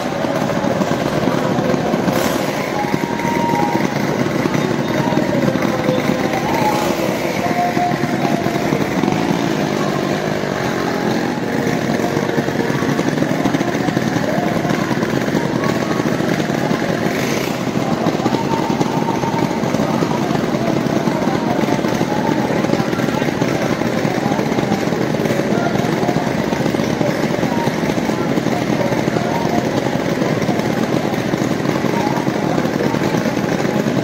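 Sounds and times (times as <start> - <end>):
crowd murmur: 0.0 - 34.0
motorcycle engines revving: 0.0 - 34.0.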